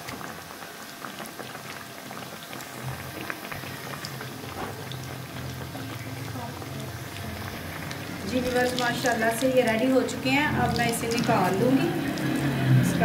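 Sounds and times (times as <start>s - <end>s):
snacks sizzling in hot oil: 0.0s - 13.0s.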